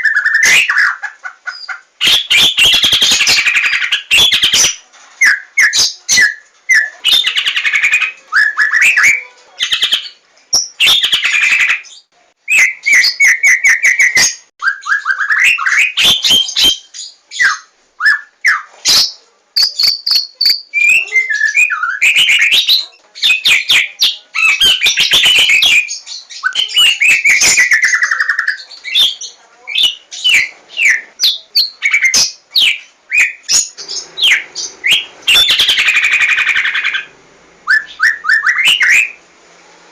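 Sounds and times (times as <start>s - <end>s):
bird singing: 0.0s - 39.2s.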